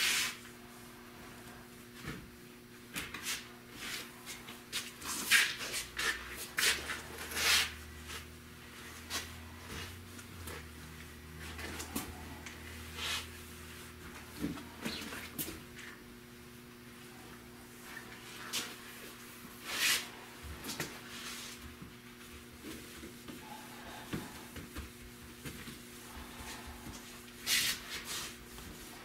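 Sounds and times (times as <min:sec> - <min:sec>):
steady low hum: 0:00.0 - 0:29.0
rustling and scraping: 0:03.0 - 0:16.0, 0:17.8 - 0:29.0.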